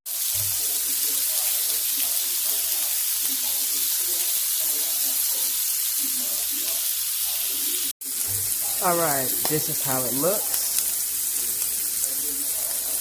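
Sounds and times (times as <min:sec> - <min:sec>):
food sizzling in a frying pan: 0:00.1 - 0:13.0.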